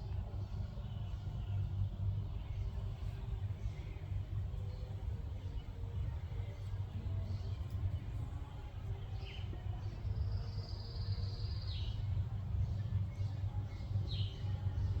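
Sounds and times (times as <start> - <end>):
steady low rumble: 0.0 - 15.0
small birds chirping: 2.3 - 15.0.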